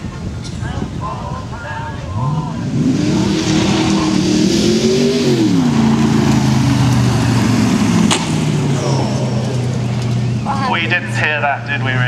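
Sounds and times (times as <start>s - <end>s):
engine running loudly: 2.1s - 12.0s.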